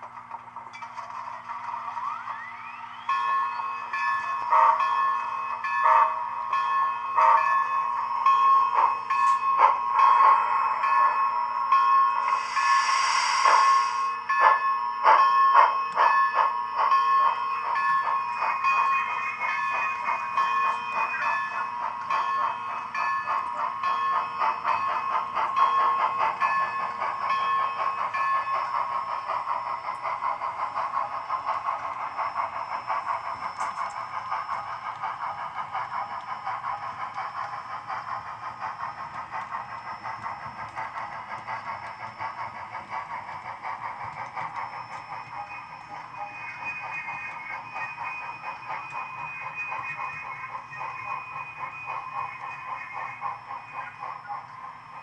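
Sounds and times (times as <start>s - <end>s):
steam locomotive exhaust chuffs: 0.0s - 55.0s.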